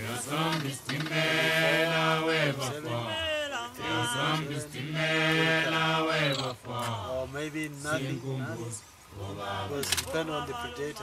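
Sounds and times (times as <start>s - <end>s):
male voices chanting: 0.0s - 11.0s.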